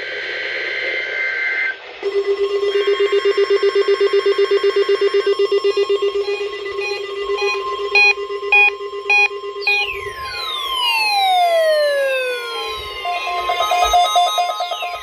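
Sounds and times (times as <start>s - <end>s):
high warbling tones: 2.0s - 15.0s
pulsing low electronic tone: 2.0s - 15.0s
screeching digital data burst: 2.0s - 15.0s.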